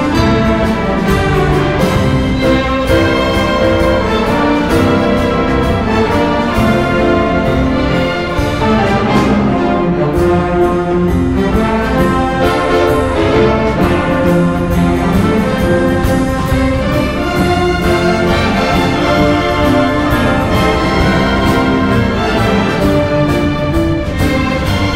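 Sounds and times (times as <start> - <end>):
wind band playing: 0.0 - 24.9.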